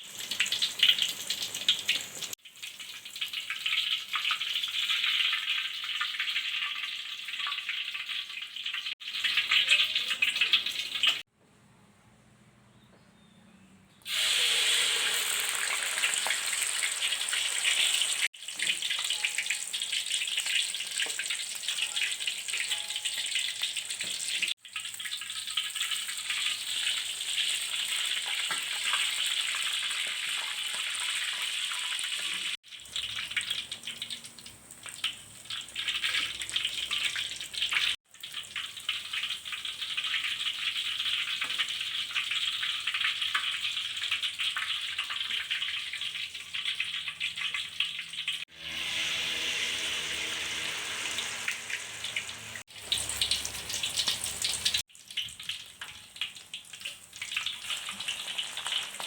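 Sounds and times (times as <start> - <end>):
batter sizzling in hot oil: 0.0 - 11.3, 14.1 - 59.0.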